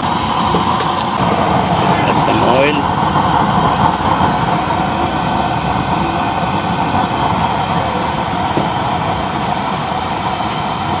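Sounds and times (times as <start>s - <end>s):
oil burner stove rushing: 0.0s - 11.0s.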